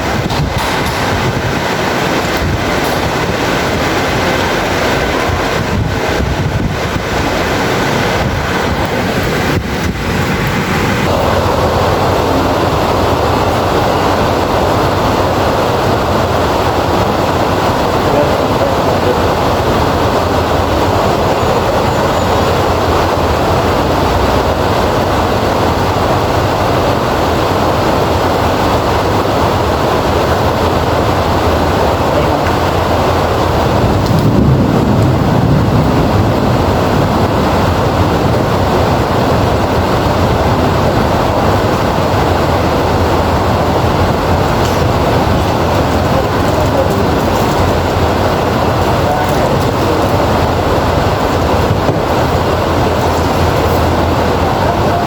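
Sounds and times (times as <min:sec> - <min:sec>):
heavy rain falling: 0:00.0 - 0:55.0
low rumble of thunder: 0:00.0 - 0:55.0.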